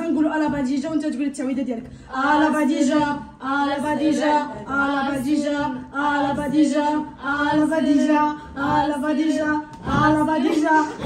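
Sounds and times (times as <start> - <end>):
young women chanting: 2.1 - 11.0.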